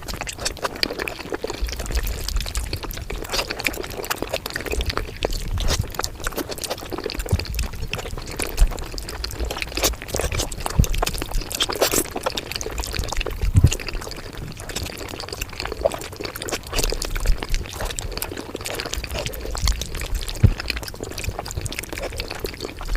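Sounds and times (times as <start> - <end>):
sped-up chewing and mouth clicks: 0.0 - 22.9.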